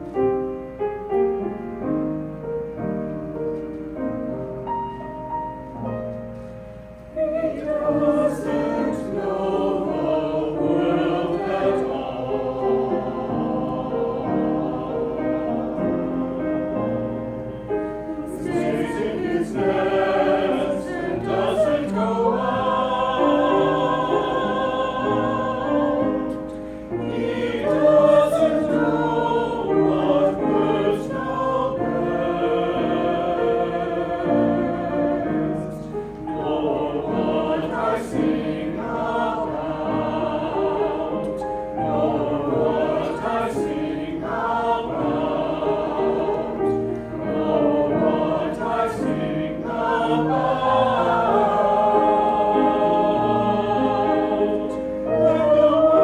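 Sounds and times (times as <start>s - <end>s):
mixed choir singing: 7.1s - 56.0s.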